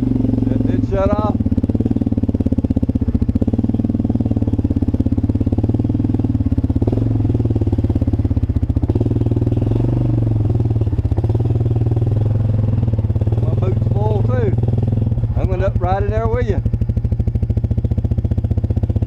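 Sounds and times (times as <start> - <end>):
atv engine idling: 0.0 - 19.0.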